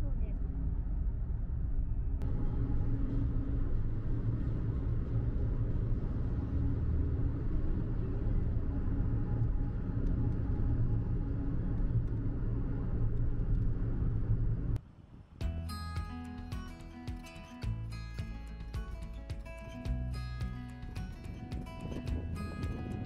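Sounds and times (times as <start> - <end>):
faint steady hum: 0.0 - 23.0
moving vehicle rumble: 0.0 - 23.0.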